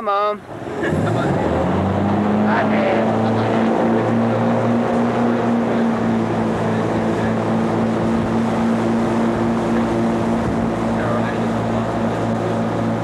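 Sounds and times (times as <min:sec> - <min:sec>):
boat engine running: 0:00.0 - 0:13.0
rushing wake and spray: 0:00.0 - 0:13.0.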